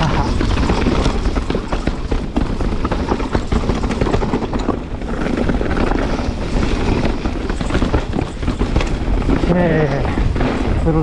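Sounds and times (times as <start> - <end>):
bike tyres on dirt: 0.0 - 11.0
wind buffeting microphone: 0.0 - 11.0
bike chain clattering: 0.1 - 10.5.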